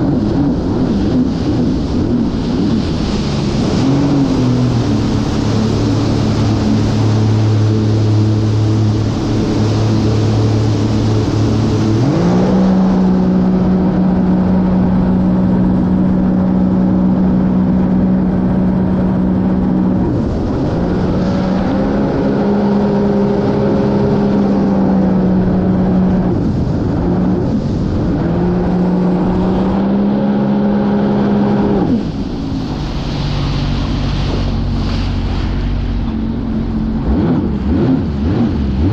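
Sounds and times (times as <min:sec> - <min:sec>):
jet ski engine revving: 0:00.0 - 0:38.9
water and wind rushing: 0:00.0 - 0:38.9.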